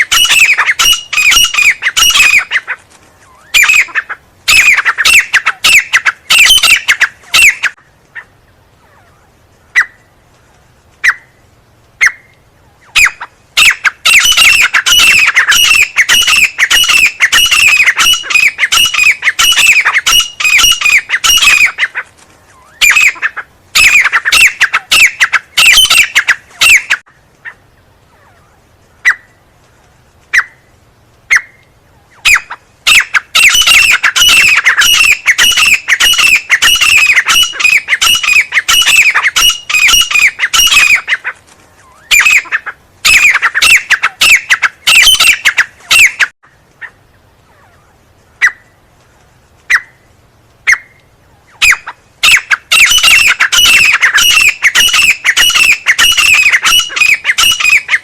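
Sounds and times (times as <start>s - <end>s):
francolin calling: 0.0s - 10.2s, 12.0s - 29.4s, 31.3s - 48.8s, 49.7s - 58.0s.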